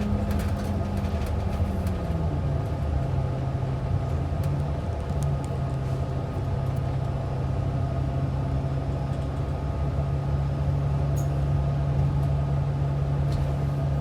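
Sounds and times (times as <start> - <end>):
bus engine humming: 0.0 - 14.0
road rumble: 0.0 - 14.0.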